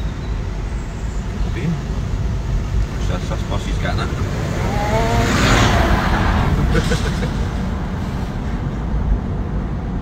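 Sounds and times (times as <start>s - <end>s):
bus passing close: 0.0s - 10.0s
tyre and road rumble: 0.0s - 10.0s.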